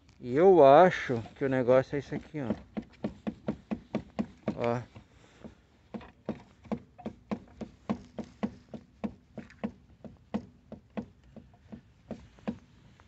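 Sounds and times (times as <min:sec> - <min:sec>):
windscreen knocking clacks: 0:00.9 - 0:13.0.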